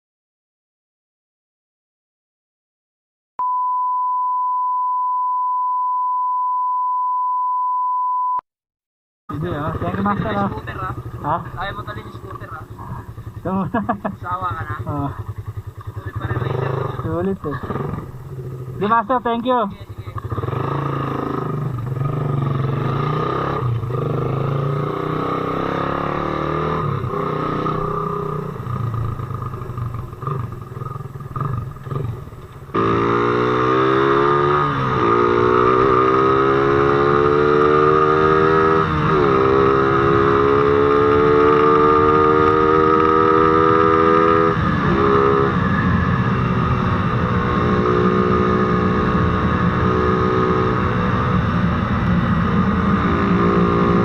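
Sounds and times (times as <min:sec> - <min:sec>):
motorcycle engine accelerating: 0:09.3 - 0:54.0.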